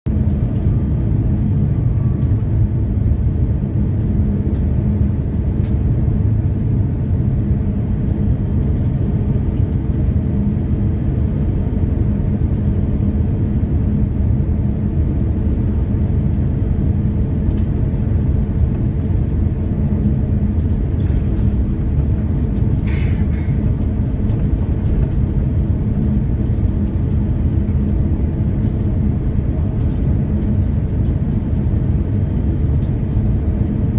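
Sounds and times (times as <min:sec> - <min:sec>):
jet engines rumbling: 0:00.1 - 0:33.9.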